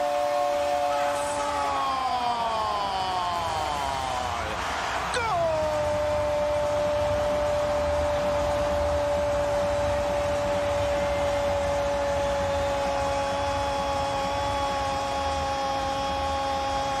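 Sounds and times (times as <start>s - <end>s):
commentator's drawn-out goal cry: 0.0s - 8.9s, 9.5s - 17.0s
stadium crowd noise: 0.0s - 17.0s.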